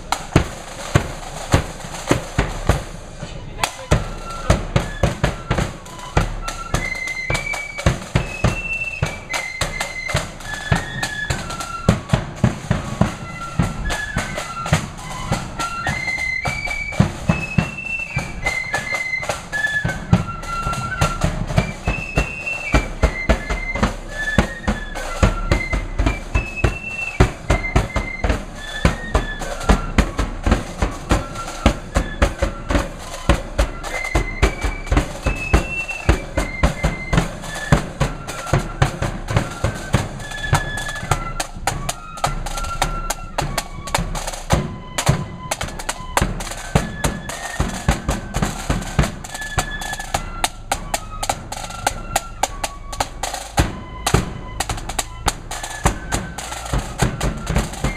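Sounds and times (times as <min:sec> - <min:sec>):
flutes playing melody: 0:00.0 - 0:57.9
quick drum strokes: 0:00.0 - 0:57.9.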